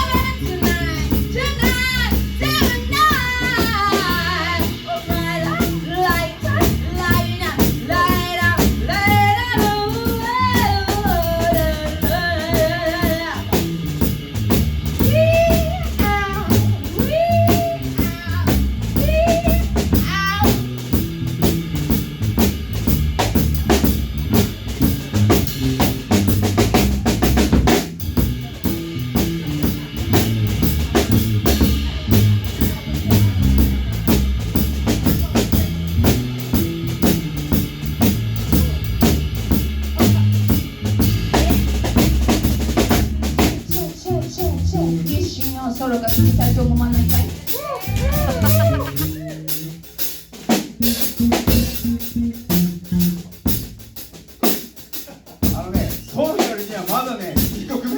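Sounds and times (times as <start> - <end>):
bass guitar: 0.0 - 57.9
drum kit beat: 0.0 - 57.9.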